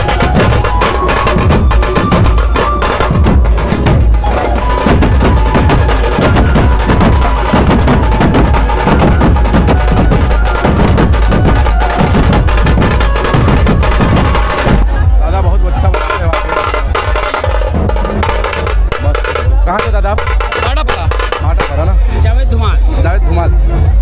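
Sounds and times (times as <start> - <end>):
drum troupe playing fast rhythm: 0.0 - 23.4.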